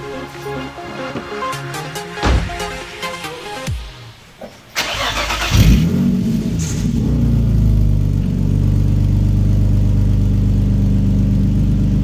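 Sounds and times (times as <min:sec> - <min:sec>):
car engine starting and idling: 0:00.0 - 0:03.9, 0:04.8 - 0:12.0.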